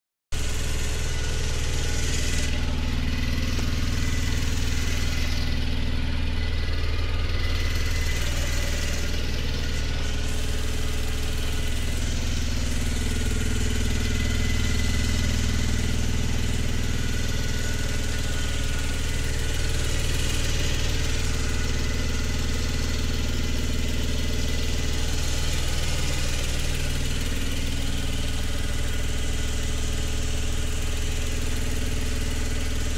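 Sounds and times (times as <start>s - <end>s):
truck engine idling: 0.3s - 32.9s.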